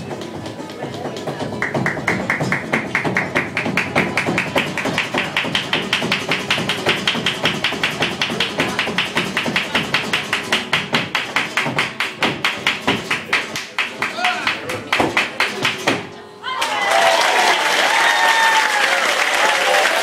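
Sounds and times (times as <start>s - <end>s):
dancer's heel and toe taps: 0.0s - 16.1s
flamenco guitar: 0.0s - 16.6s.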